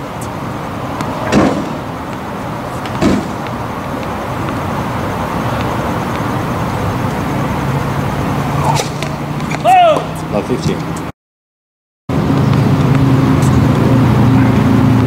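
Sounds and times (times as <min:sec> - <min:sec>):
road traffic rumble: 0:00.0 - 0:11.1, 0:12.1 - 0:15.0.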